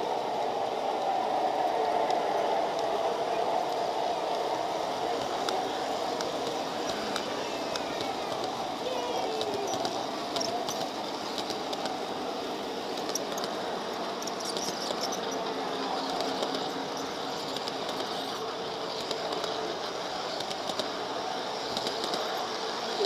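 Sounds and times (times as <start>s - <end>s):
model train wheels rumbling: 0.0s - 23.0s.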